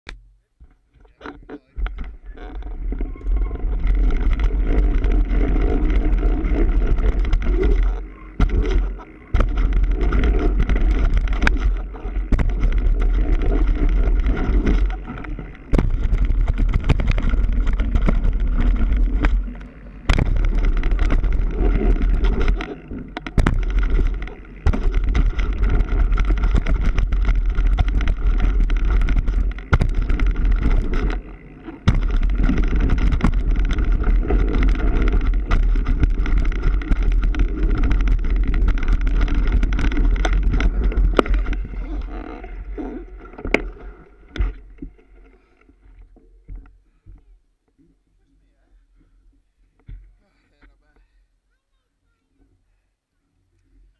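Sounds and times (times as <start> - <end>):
bike knocks and rattles: 0.6 - 45.0
bike tyre noise: 0.6 - 47.4.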